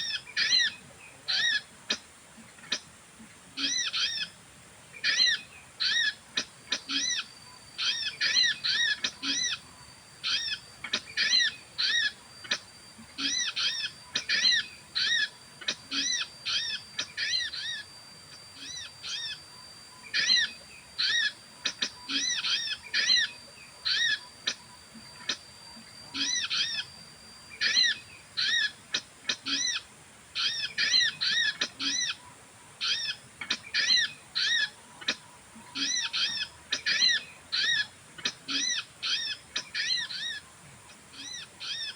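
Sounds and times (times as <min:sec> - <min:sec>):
bird calls with high notes: 0:05.0 - 0:41.9
thin steady high tone: 0:05.2 - 0:41.9.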